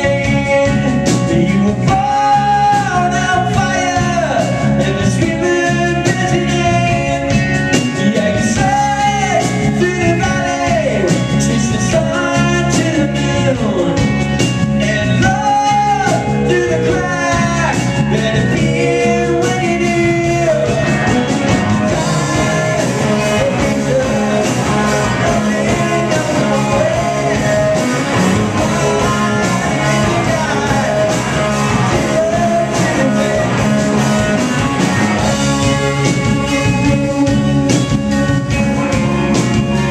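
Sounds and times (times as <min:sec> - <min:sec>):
drum kit: 0:00.0 - 0:39.9
electric guitars through amplifiers: 0:00.0 - 0:39.9.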